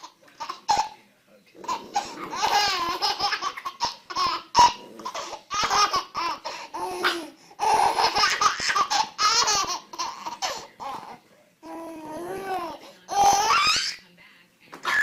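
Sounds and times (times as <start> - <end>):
baby laughing: 0.0 - 1.0, 1.6 - 14.0.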